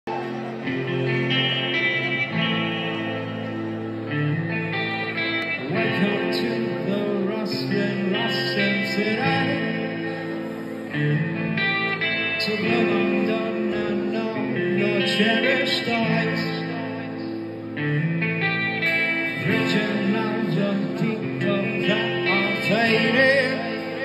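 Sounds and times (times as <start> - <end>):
bass: 0.0 - 24.0
electric guitars: 0.0 - 24.0
keyboards playing chords: 0.0 - 24.0.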